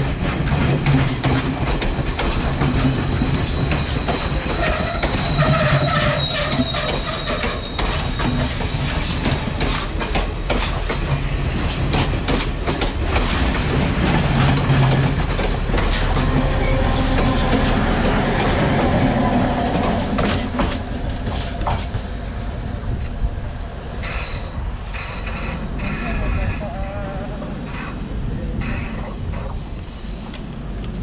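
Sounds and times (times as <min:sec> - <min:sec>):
train wheels clicking over rail joints: 0:00.0 - 0:23.3, 0:24.0 - 0:26.7.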